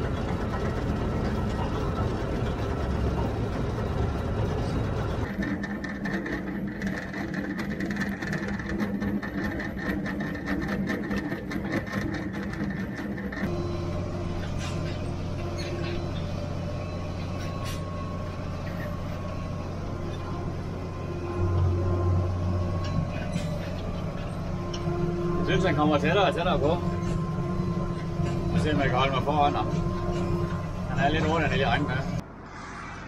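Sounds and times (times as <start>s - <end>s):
manure spreader clattering: 0.0s - 32.1s
tractor engine drone: 0.0s - 33.0s.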